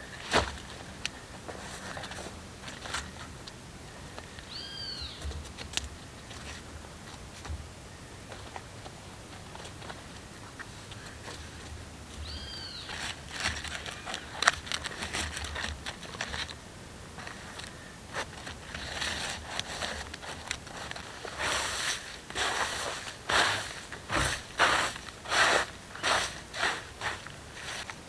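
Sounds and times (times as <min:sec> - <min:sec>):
rustling and scraping handling: 0:00.0 - 0:03.5, 0:05.1 - 0:07.6, 0:08.3 - 0:28.0.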